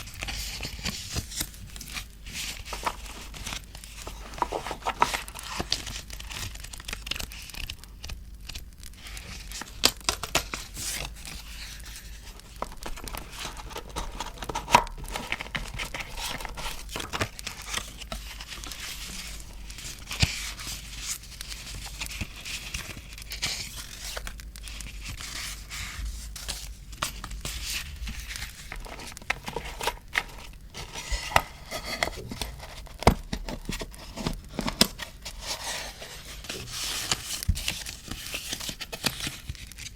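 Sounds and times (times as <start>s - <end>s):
paper crackles and snaps: 0.0s - 39.9s
paper rustling and crinkling: 0.0s - 39.9s.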